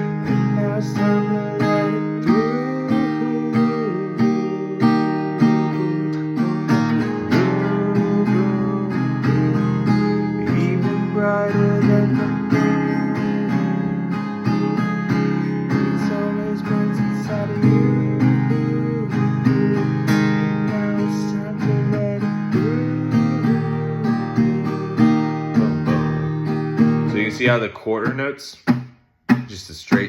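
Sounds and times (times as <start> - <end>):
acoustic guitar strummed chords: 0.0 - 30.0.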